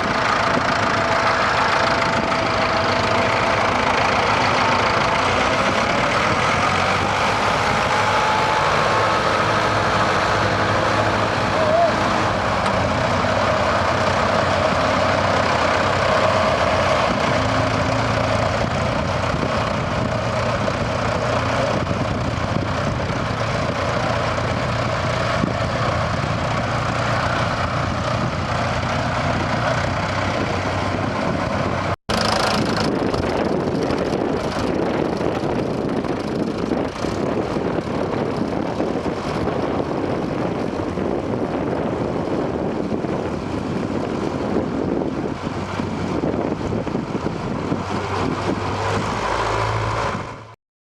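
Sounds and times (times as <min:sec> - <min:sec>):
heavy tractor engine running: 0:00.0 - 0:50.6.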